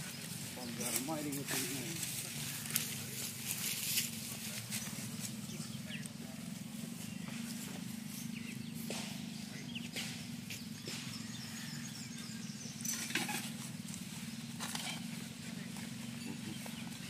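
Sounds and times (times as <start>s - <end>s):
rustling through grass: 0.0s - 17.0s
steady low hum: 0.0s - 17.0s.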